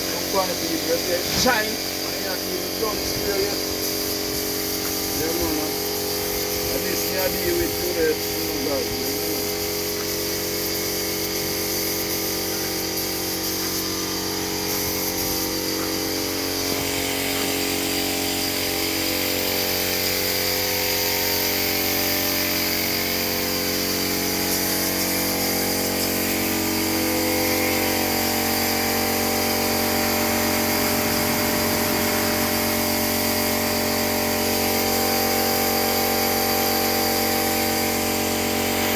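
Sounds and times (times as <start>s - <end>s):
air compressor humming: 0.0s - 38.9s
spray gun hissing: 0.0s - 38.9s.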